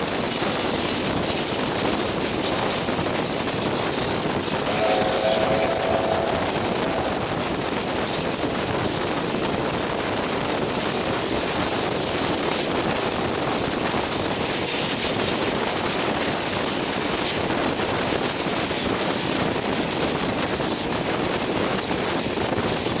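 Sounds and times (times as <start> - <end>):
train running noise: 0.0 - 23.0
wind rushing on microphone: 0.0 - 23.0.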